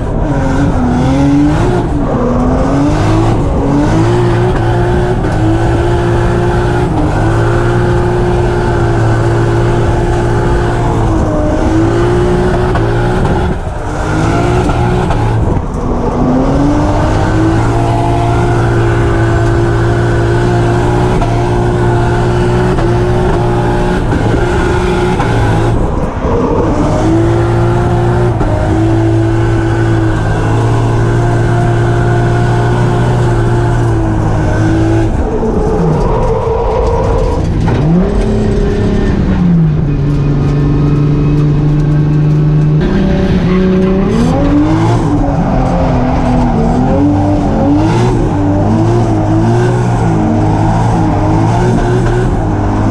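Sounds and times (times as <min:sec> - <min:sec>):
car engine revving high: 0:00.0 - 0:52.9.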